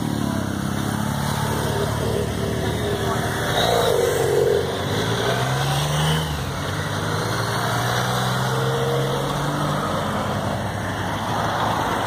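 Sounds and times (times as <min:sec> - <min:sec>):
motorcycles rolling past: 0:00.0 - 0:12.0.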